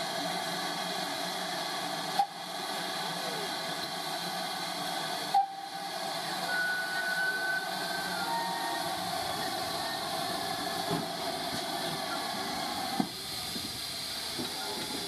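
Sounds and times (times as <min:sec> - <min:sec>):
steam hissing: 0:00.0 - 0:15.0.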